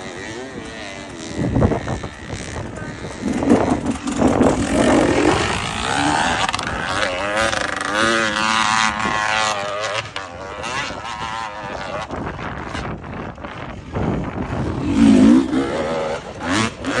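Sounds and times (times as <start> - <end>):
dirt bike engine revving: 0.0 - 12.9, 14.4 - 17.0.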